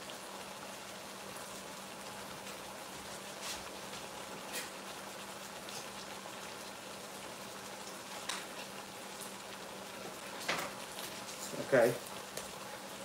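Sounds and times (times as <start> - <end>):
chicken sizzling in a skillet: 0.0 - 13.0.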